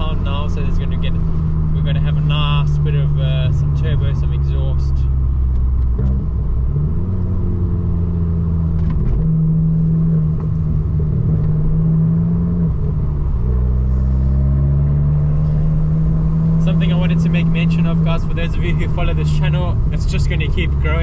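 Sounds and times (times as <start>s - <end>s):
car engine and exhaust revving: 0.0s - 21.0s.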